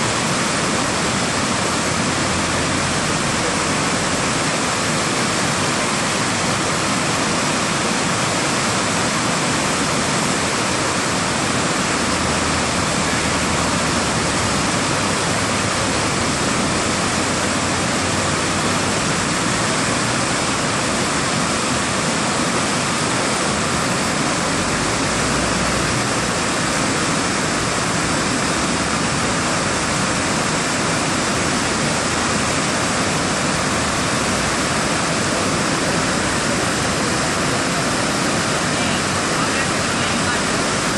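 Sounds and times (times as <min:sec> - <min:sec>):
whitewater rushing through rapids: 0:00.0 - 0:40.9.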